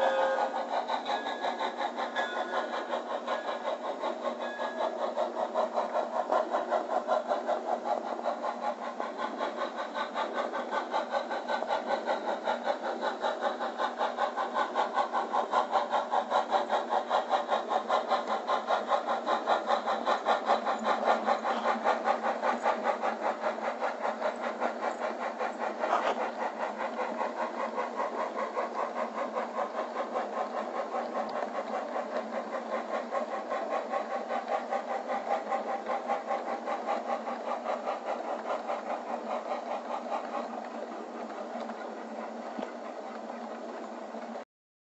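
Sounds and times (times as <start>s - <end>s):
model steam locomotive chuffing: 0.0s - 44.4s.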